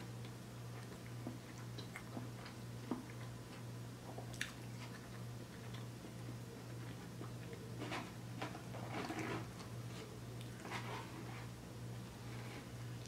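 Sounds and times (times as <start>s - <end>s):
person chewing food: 0.0s - 11.0s
steady low hum: 0.0s - 13.0s.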